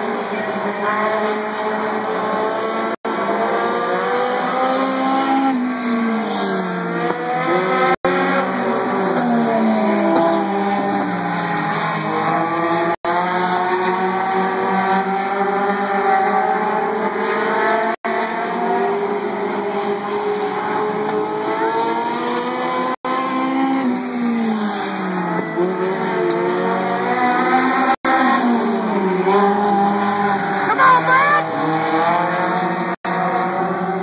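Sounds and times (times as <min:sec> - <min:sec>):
stock car engines racing: 0:00.0 - 0:34.0.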